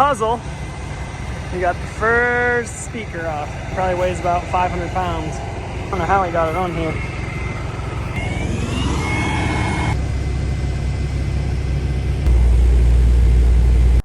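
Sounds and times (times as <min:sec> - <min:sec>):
thin rising whine: 0:00.0 - 0:13.2
crane engine rumbling: 0:00.0 - 0:14.0
deep loud rumble: 0:00.0 - 0:14.0.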